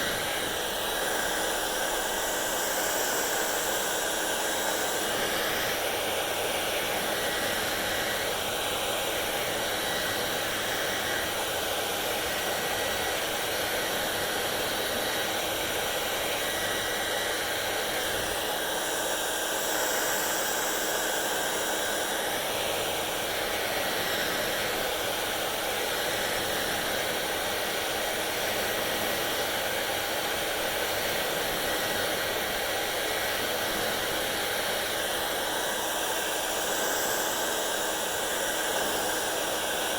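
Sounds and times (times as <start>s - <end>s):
hair dryer blowing air: 0.0s - 39.9s
hair dryer motor whine: 0.0s - 39.9s.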